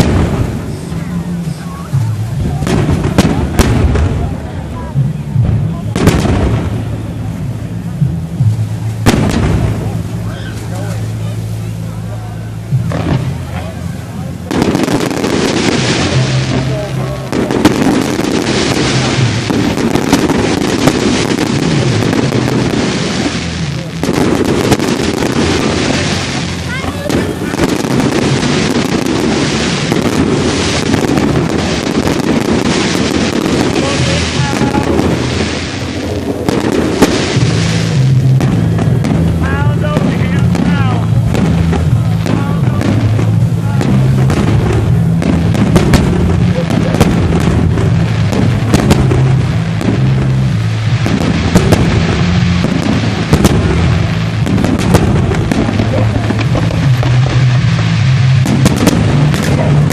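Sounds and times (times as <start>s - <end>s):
loud firework bang: 0.0s - 1.2s, 2.0s - 4.6s, 5.4s - 7.2s, 8.4s - 11.3s, 12.7s - 13.8s, 14.4s - 59.9s
fireworks crackling and popping: 0.0s - 59.9s.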